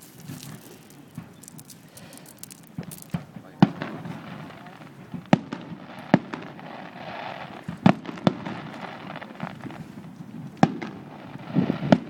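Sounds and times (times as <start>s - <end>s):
fireworks bangs: 0.0s - 12.0s
fireworks pops and crackle: 0.0s - 12.0s.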